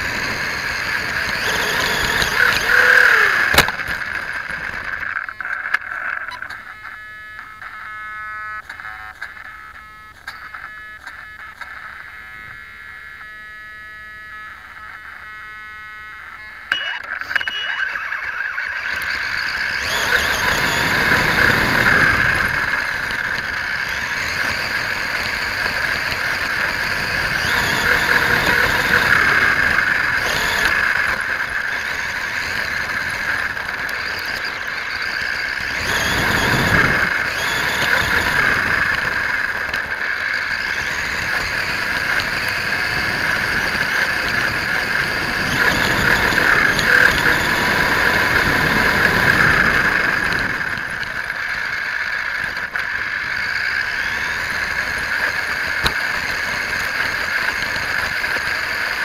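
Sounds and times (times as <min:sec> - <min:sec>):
electric motor whine: 0:00.0 - 0:59.0.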